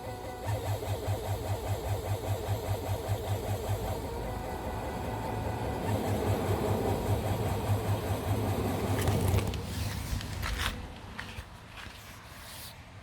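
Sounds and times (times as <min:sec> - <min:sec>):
diesel engine pulsing hum: 0:00.0 - 0:11.4.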